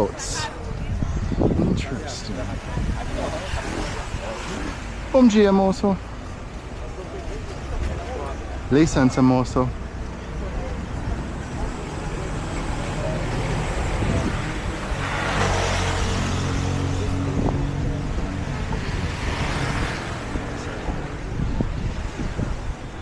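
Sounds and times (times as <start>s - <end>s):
surf: 0.0s - 23.0s
wind: 0.0s - 23.0s.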